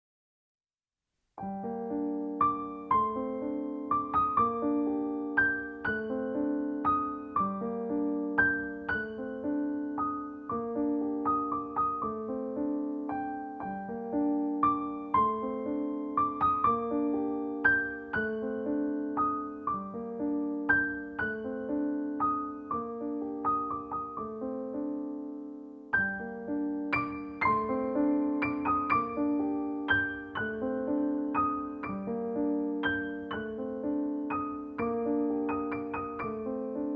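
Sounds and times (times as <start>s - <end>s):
piano music: 1.4s - 36.9s.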